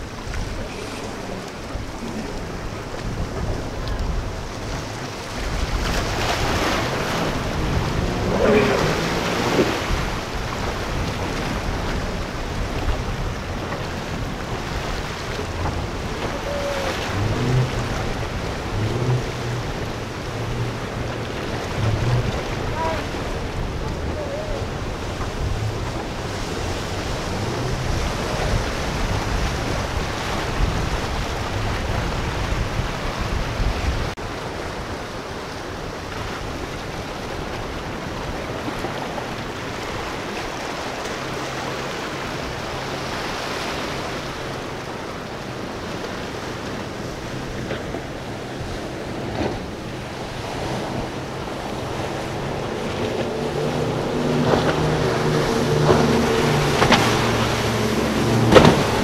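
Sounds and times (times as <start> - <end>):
motorboat engine hum: 0.0 - 59.0
water rushing and breaking: 0.0 - 59.0
wind gusting on microphone: 0.0 - 59.0.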